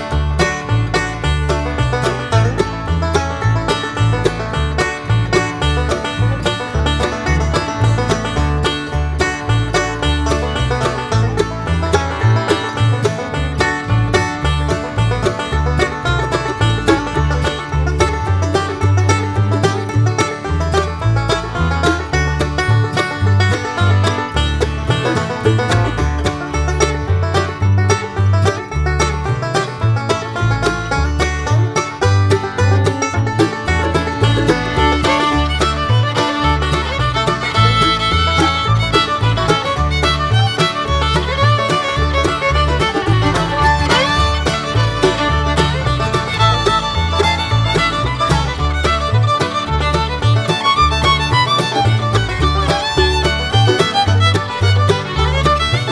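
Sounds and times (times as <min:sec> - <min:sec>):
banjo: 0:00.0 - 0:55.9
bass beat: 0:00.0 - 0:55.9
fiddle: 0:00.0 - 0:55.9.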